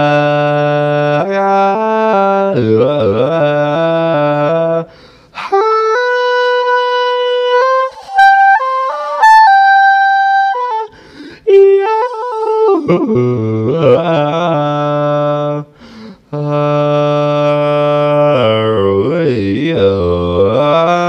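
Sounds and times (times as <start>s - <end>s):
reedy wind instrument melody: 0.0s - 19.1s.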